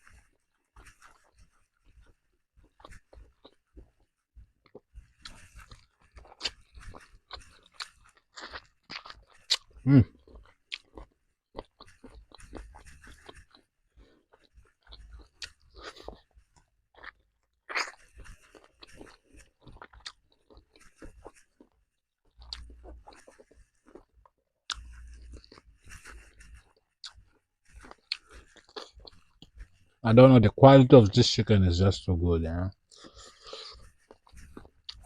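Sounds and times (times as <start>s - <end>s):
person chewing: 0.0s - 30.0s, 32.8s - 35.0s.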